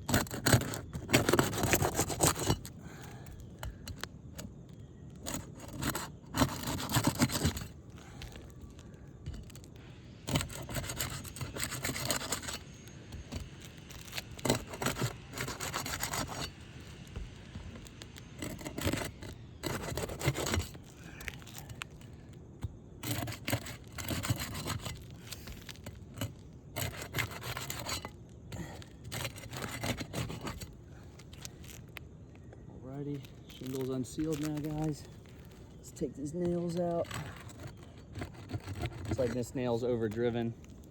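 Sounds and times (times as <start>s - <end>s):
hand tool scraping under shingles: 0.0s - 40.9s.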